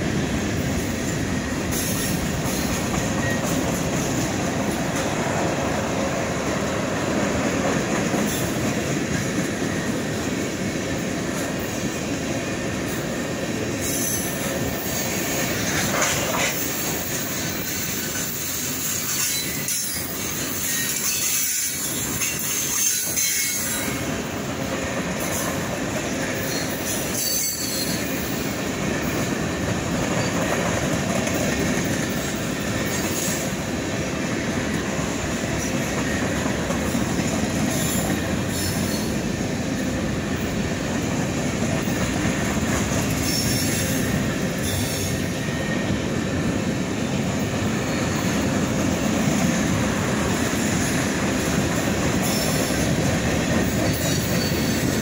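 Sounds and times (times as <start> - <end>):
train wheels rolling on rail: 0.0 - 55.0.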